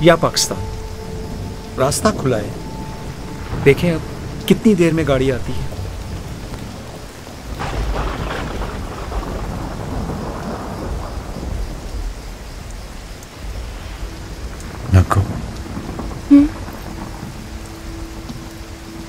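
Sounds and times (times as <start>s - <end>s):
thunder crack: 0.0s - 12.8s, 13.4s - 18.4s
heavy rain: 0.0s - 19.0s
thunder rumbling: 0.0s - 19.0s.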